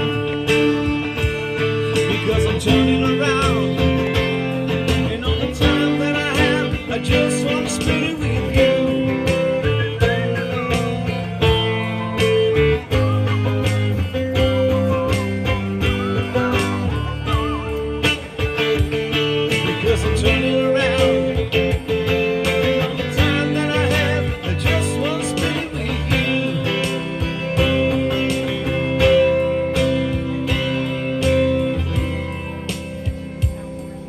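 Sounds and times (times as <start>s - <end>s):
guitar over a steady beat: 0.0s - 34.0s
wavering lead melody: 0.0s - 34.0s.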